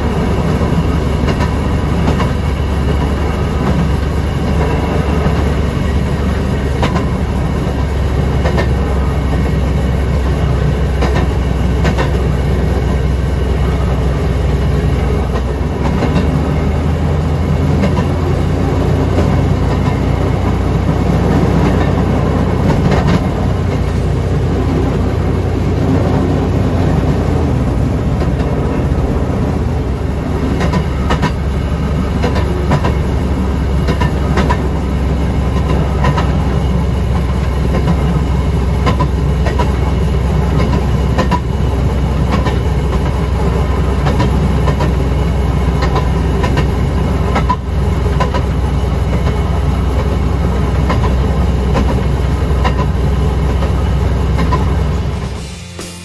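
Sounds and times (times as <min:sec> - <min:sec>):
wheels clicking over rail joints: 0:00.0 - 0:55.4
low engine drone: 0:00.0 - 0:56.0.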